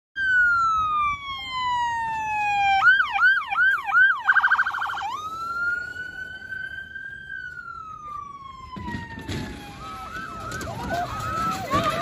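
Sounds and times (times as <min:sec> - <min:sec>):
police siren wailing and yelping: 0:00.2 - 0:12.0.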